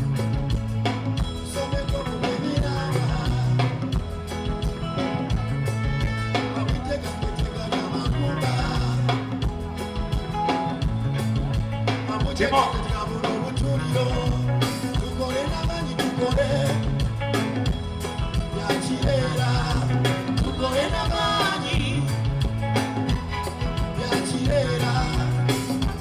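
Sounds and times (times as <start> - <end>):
band music through sound system: 0.0 - 26.0.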